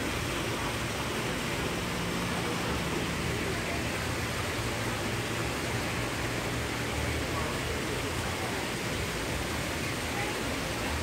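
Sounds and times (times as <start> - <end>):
water rushing and churning: 0.0 - 11.0.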